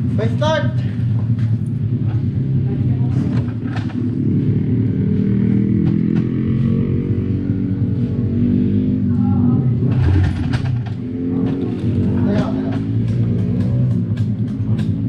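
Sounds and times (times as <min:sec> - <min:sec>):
small motorcycle engine idling: 0:00.0 - 0:15.0.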